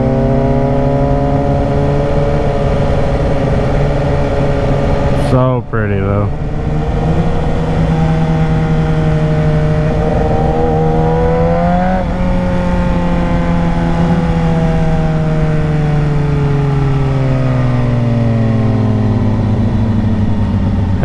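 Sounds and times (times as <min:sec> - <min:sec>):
motorcycle engine running: 0:00.0 - 0:21.0
wind rush: 0:00.0 - 0:21.0.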